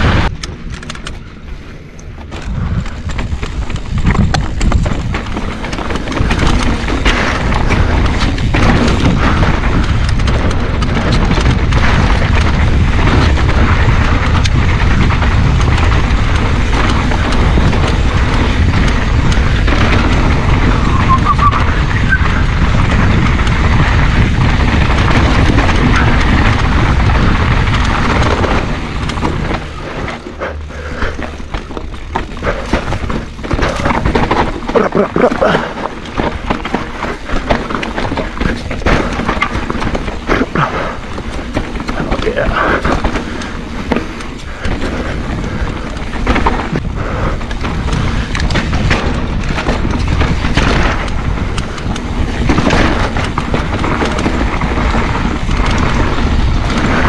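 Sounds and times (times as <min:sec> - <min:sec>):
mountain bike rumbling downhill: 0:00.0 - 0:57.0
wind buffeting microphone: 0:00.0 - 0:57.0.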